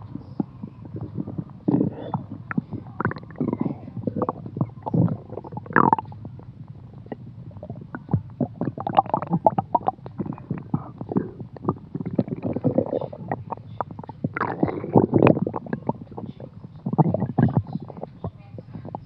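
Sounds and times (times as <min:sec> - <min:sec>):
stomach gurgling: 0:00.0 - 0:19.0.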